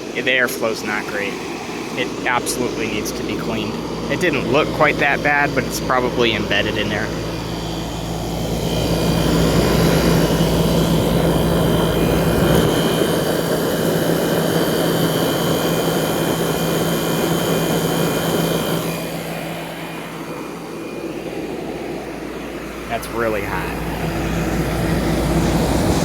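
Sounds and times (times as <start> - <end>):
compressor hum: 0.0 - 26.0
condenser fan air rush: 0.0 - 26.0.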